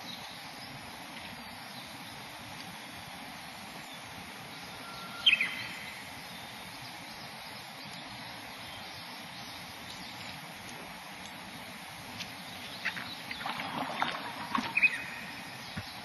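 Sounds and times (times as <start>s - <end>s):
open-air background noise: 0.0s - 16.0s.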